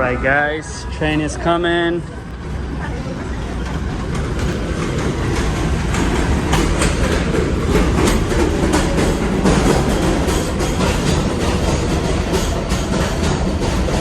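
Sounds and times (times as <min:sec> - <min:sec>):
subway train rumble: 0:00.0 - 0:14.0
wheels clattering over rail joints: 0:02.3 - 0:14.0.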